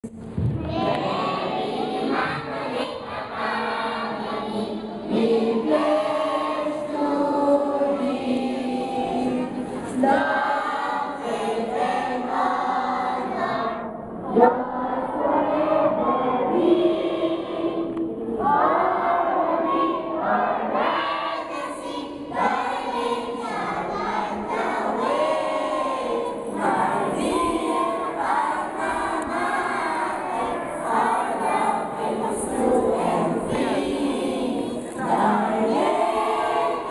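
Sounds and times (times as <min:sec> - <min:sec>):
children's choir singing a hymn: 0:00.1 - 0:36.9.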